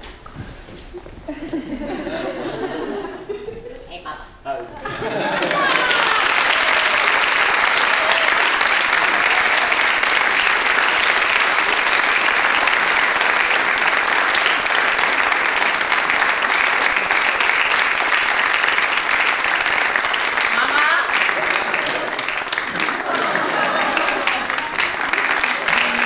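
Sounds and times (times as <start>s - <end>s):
audience applauding: 4.9s - 26.0s.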